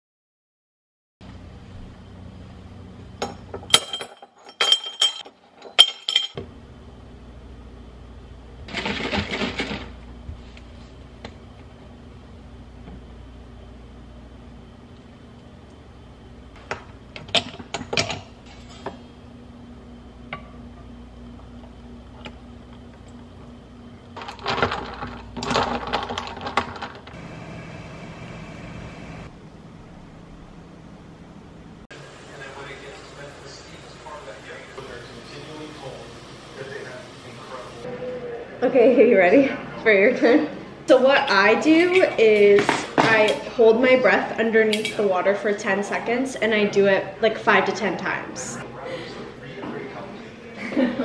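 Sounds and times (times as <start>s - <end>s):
low background hum: 1.2s - 51.0s.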